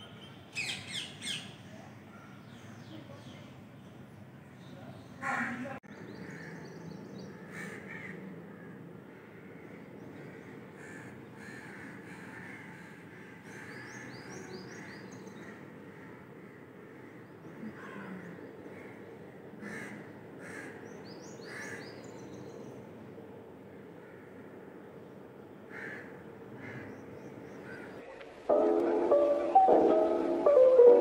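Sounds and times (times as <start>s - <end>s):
low background noise: 0.0s - 31.0s.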